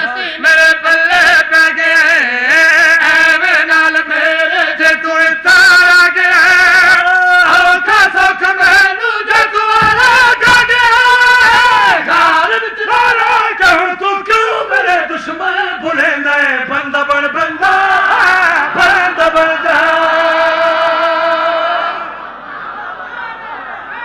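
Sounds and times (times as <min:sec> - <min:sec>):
man singing unaccompanied: 0:00.0 - 0:22.1.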